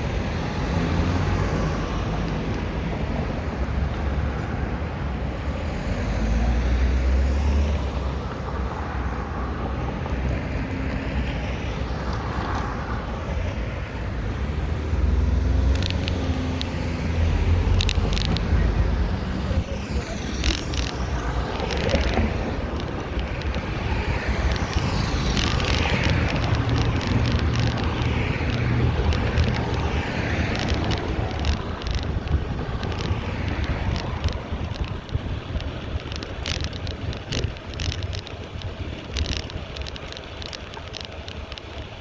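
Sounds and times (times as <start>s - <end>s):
bicycle ticks and rattles: 0.0s - 5.5s, 7.4s - 42.0s
car traffic passing: 0.0s - 42.0s
wind rumbling on microphone: 0.0s - 42.0s.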